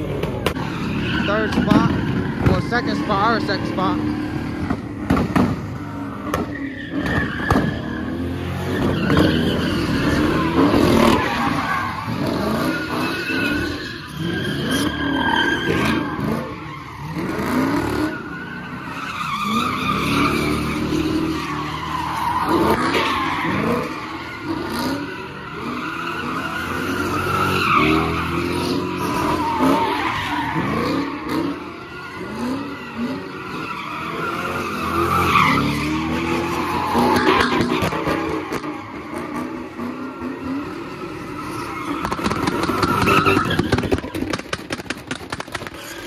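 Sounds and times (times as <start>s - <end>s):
car engine revving: 0.0s - 46.0s
tires squealing: 0.0s - 46.0s.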